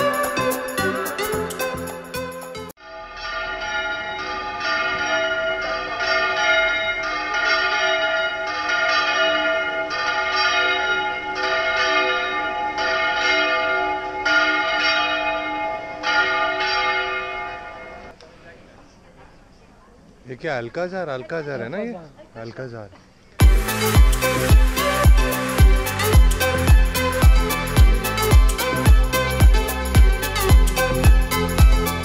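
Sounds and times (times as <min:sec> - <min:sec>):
church bells ringing in a peal: 0:00.0 - 0:18.1, 0:23.4 - 0:32.0.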